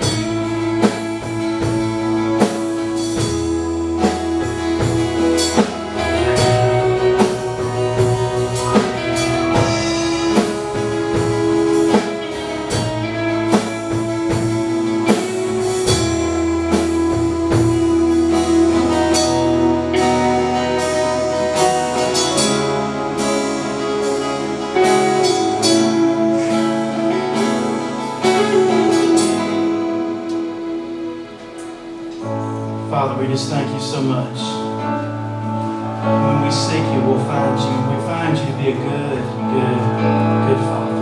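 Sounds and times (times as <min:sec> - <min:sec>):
steady drum beat: 0:00.0 - 0:34.1
bass line: 0:00.0 - 0:41.0
guitar: 0:00.0 - 0:41.0
keyboard chords: 0:00.0 - 0:41.0.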